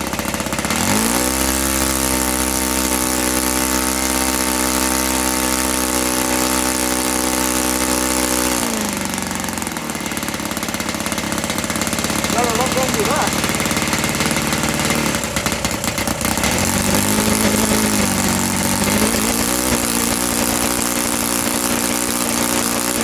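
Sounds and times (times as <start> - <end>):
model aircraft engine revving: 0.0 - 23.0.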